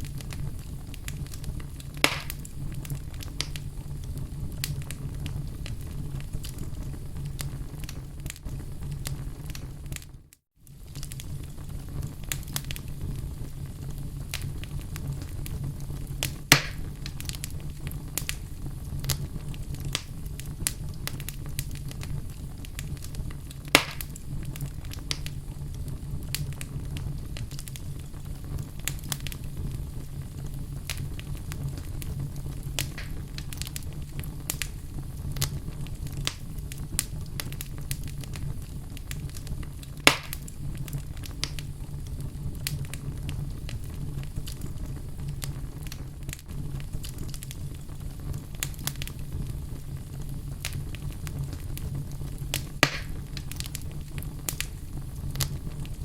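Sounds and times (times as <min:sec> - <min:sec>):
loud fire pops: 0:00.0 - 0:56.0
wood fire crackling: 0:00.0 - 0:56.0.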